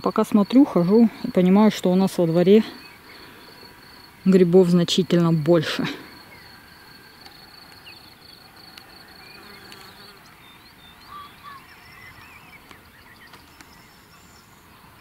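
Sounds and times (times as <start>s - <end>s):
faint insect chirps: 0.0s - 15.0s.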